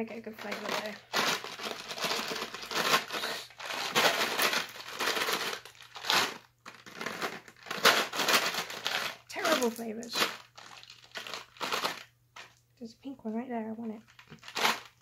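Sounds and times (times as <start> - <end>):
crinkly sweets packet rustling: 0.0 - 12.6, 13.8 - 15.0.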